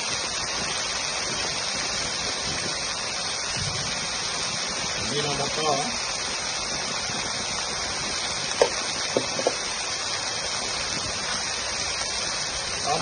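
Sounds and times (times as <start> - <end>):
corn kernels sizzling in a pan: 0.0 - 13.0.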